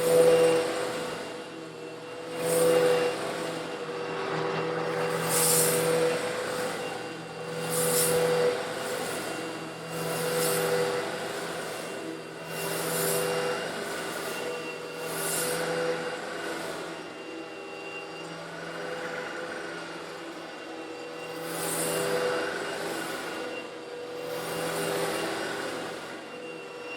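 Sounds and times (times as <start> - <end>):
vacuum cleaner motor running: 0.0 - 26.9.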